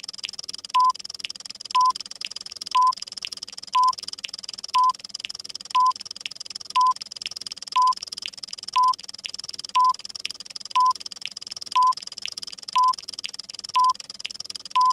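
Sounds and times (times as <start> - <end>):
clock ticks: 0.0 - 14.9.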